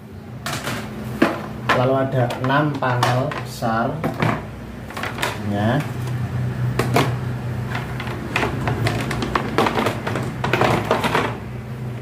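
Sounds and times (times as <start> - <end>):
steady low hum: 0.0 - 12.0
plastic panels clattering: 0.5 - 6.2, 6.8 - 11.4.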